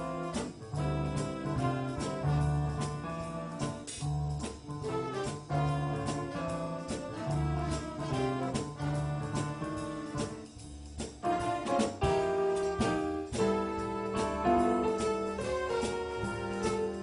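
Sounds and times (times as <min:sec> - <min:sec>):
brass-led jazz band music: 0:00.0 - 0:17.0.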